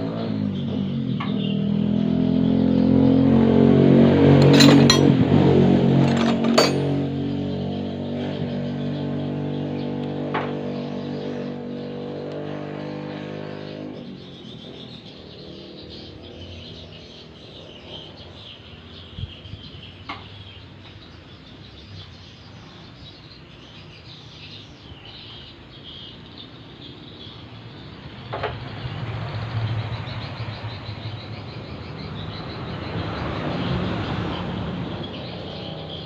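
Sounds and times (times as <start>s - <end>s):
birds chirping: 0.1s - 36.0s.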